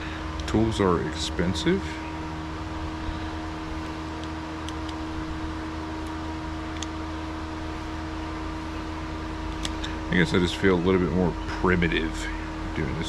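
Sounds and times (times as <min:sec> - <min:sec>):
fan-like droning hum: 0:00.0 - 0:13.0.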